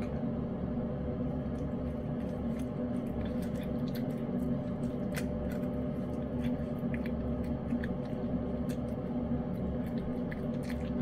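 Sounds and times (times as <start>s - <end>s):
cat chewing and licking wet food: 0.0s - 11.0s
steady low hum: 0.0s - 11.0s.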